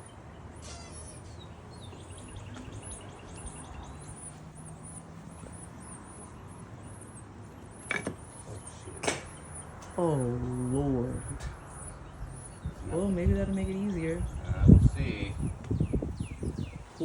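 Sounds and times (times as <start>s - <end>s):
nestling birds begging chirps: 0.0s - 17.0s.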